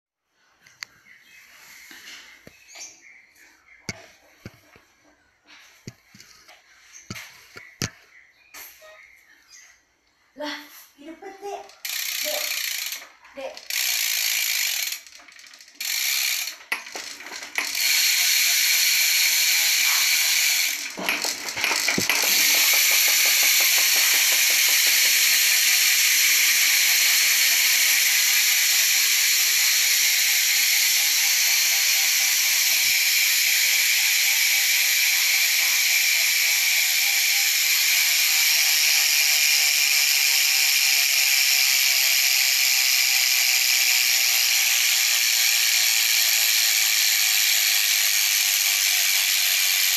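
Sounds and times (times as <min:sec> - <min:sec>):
bicycle hub freewheel clicking buzz: 0:05.8 - 0:08.0, 0:11.6 - 0:49.9.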